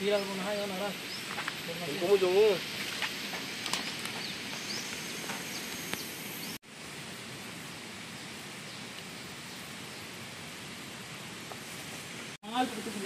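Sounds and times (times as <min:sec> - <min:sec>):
steady forest hiss: 0:00.0 - 0:13.0.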